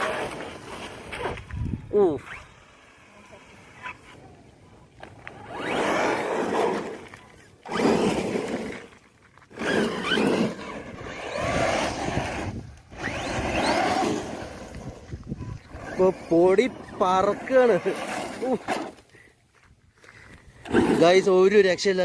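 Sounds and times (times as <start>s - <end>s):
tyres scrabbling on dirt: 0.0s - 2.4s, 5.0s - 22.0s
electric rc car motor whine: 0.0s - 4.4s, 5.0s - 19.0s.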